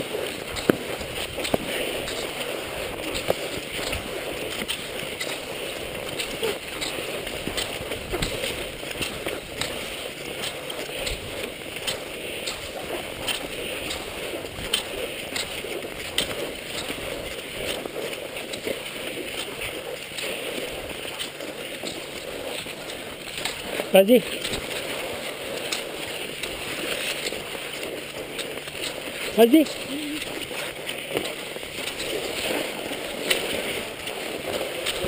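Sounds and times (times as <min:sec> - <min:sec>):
ski poles clicking: 0:00.0 - 0:35.0
skis sliding on snow: 0:00.0 - 0:35.0.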